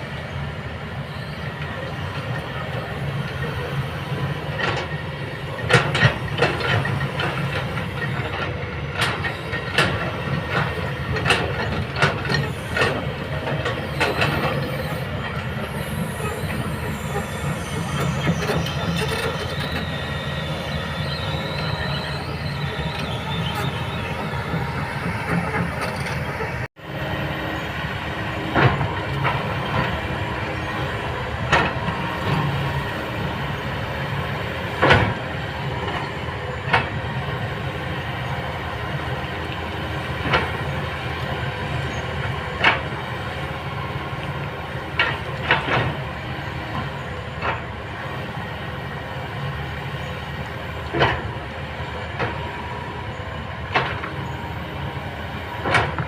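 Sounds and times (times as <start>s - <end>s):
excavator running under load: 0.0s - 56.0s.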